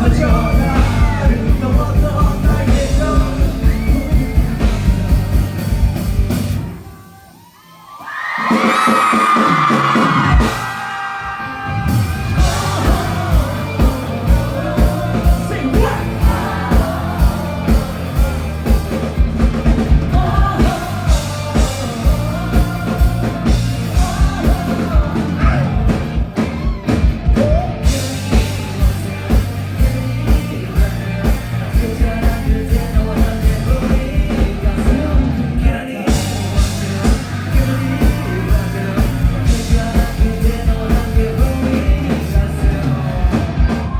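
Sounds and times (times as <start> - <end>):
man singing lead vocal: 0.0 - 5.3, 8.9 - 43.9
live rock band: 0.0 - 43.9.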